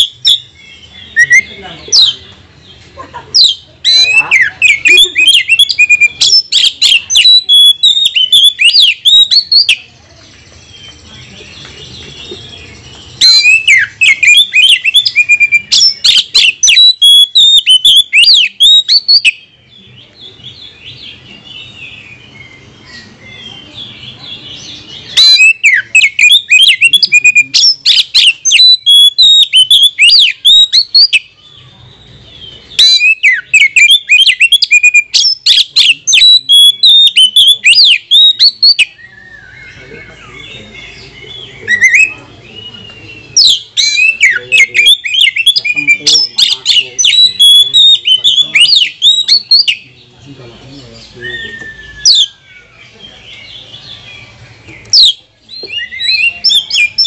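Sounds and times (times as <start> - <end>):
bird singing whistles and chirps: 0.0 - 2.2, 3.4 - 57.0
soft bird twittering: 0.0 - 57.0.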